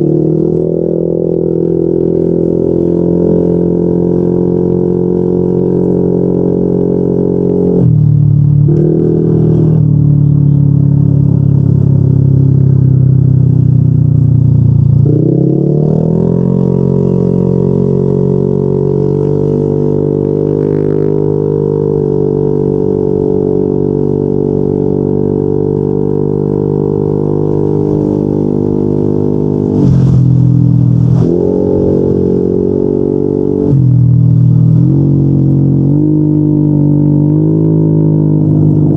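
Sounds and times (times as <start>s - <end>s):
scooter engine drone: 0.0s - 38.9s.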